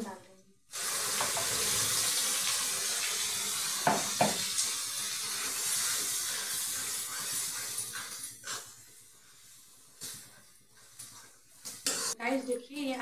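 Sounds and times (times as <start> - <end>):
paste sizzling in hot oil: 0.7 - 12.2.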